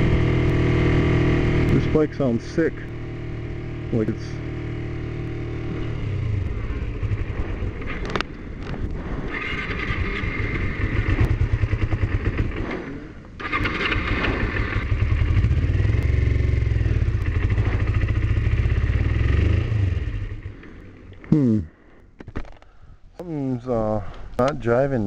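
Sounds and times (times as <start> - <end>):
motorcycle engine running: 0.0 - 21.1.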